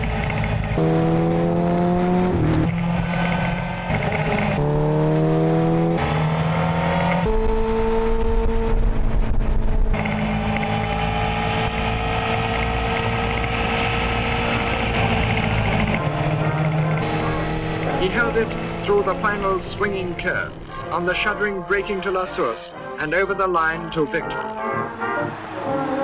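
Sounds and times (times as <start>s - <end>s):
racing engine accelerating: 0.0s - 22.0s, 24.5s - 26.0s.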